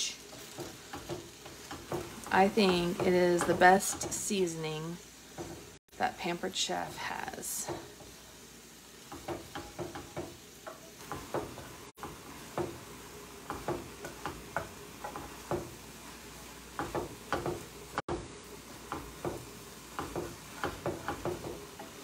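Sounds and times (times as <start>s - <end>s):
faint food sizzling: 0.0s - 22.0s.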